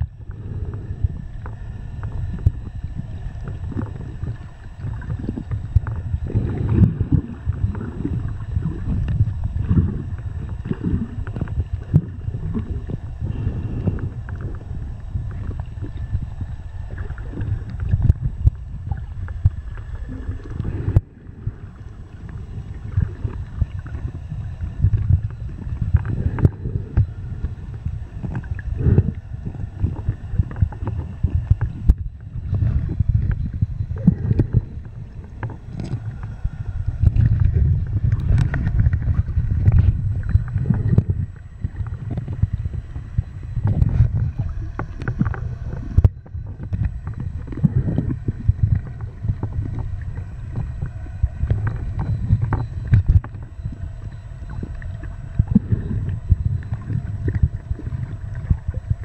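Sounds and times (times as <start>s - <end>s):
underwater water sloshing: 0.0s - 59.0s.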